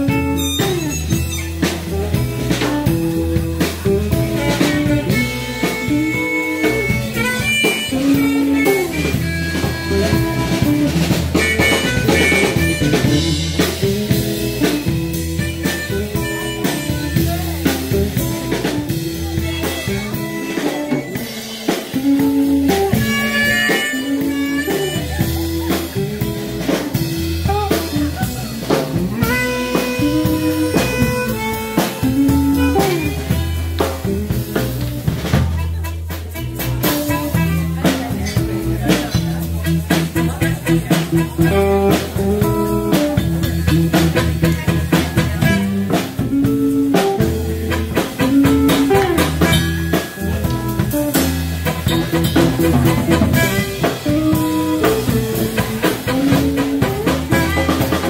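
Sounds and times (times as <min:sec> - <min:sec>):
bass guitar: 0:00.0 - 0:58.0
blues harmonica: 0:00.0 - 0:58.0
drum kit beat: 0:00.0 - 0:58.0
electric guitar: 0:00.0 - 0:58.0.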